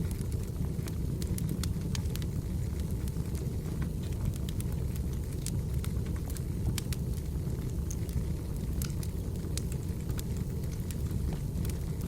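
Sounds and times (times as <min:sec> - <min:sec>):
fire crackling and popping: 0:00.0 - 0:12.0
flames rumbling: 0:00.0 - 0:12.0.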